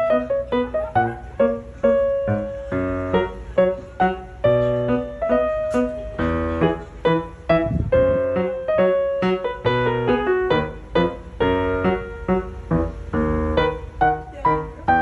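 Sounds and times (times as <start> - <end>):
light piano melody: 0.0 - 15.0.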